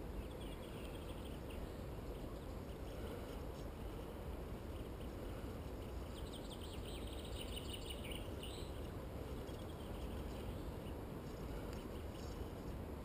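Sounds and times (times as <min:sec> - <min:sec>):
small birds chirping: 0:00.0 - 0:12.9
low background rumble: 0:00.0 - 0:13.0.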